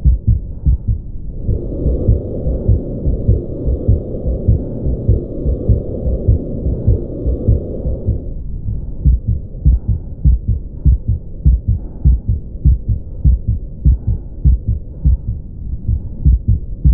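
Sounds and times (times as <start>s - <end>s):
heartbeat: 0.0s - 16.9s
low rumbling heart murmur: 0.0s - 16.9s.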